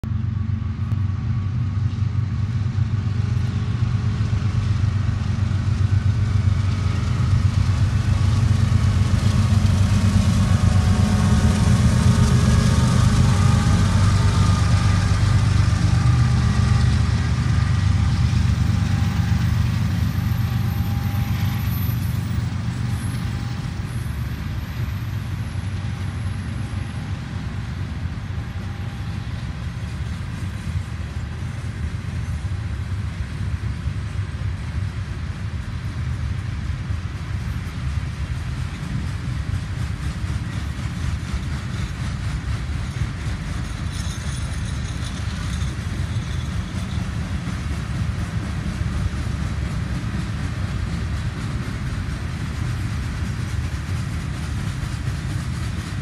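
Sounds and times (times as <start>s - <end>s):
diesel locomotive rumbling past: 0.0s - 56.0s
freight cars rolling on rails: 0.1s - 56.0s.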